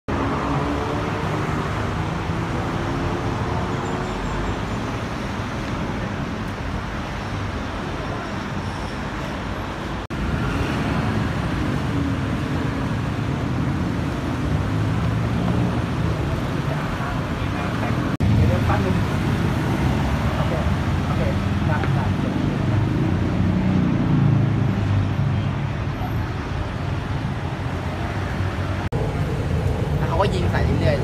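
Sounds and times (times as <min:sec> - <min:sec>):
street traffic with engines: 0:00.0 - 0:31.0.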